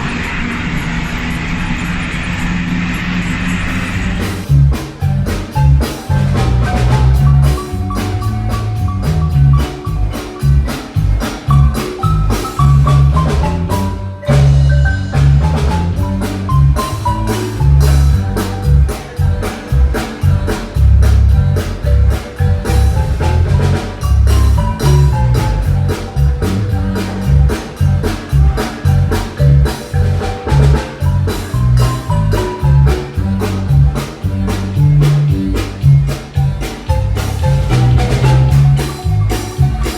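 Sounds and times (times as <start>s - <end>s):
loud music with heavy bass beat: 4.2s - 39.9s.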